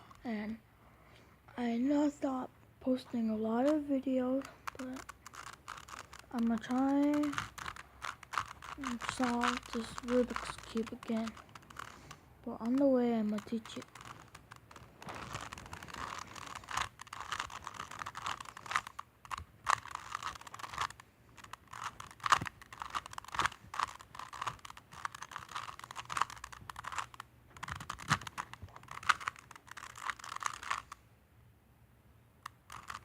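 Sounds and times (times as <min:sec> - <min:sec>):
plastic puzzle cube clicking: 0:03.6 - 0:31.0, 0:32.4 - 0:33.0.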